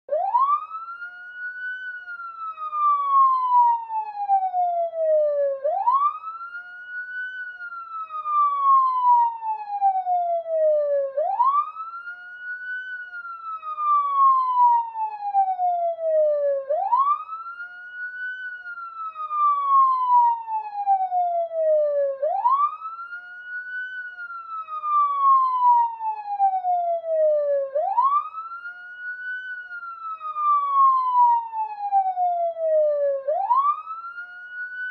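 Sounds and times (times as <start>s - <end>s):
police siren wailing: 0.1s - 34.9s.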